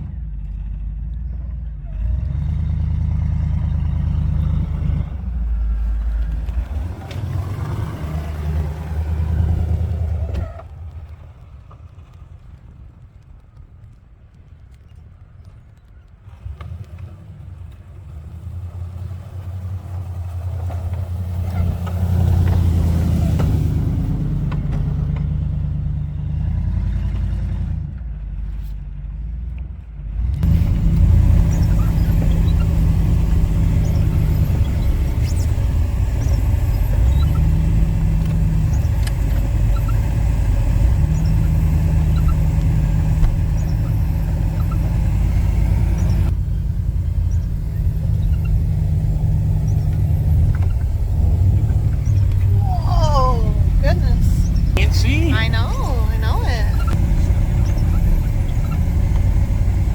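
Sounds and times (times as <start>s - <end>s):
engine running: 0.0s - 13.7s, 16.2s - 28.5s, 30.0s - 59.9s.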